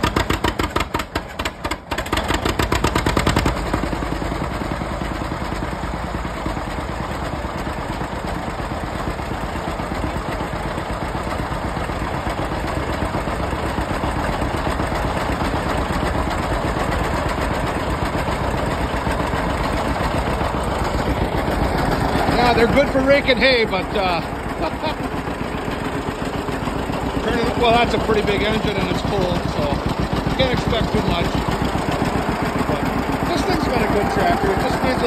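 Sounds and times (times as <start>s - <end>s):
tractor engines running: 0.0s - 35.0s.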